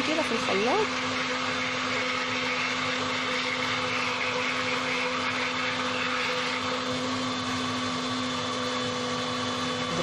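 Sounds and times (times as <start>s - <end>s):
electric blender running: 0.0s - 10.0s.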